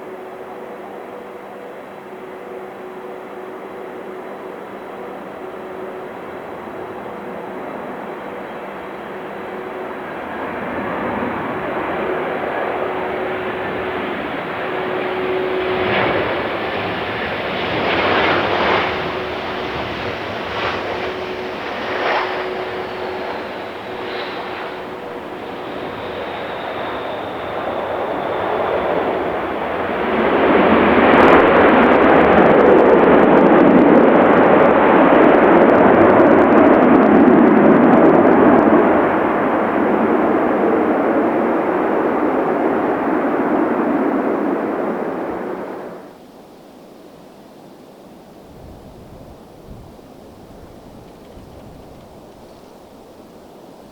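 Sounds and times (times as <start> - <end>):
jet engine rushing: 1.7 - 46.2.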